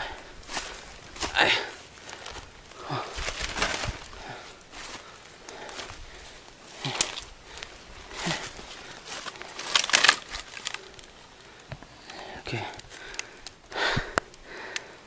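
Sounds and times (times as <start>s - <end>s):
footsteps through dry grass: 0.0s - 14.7s.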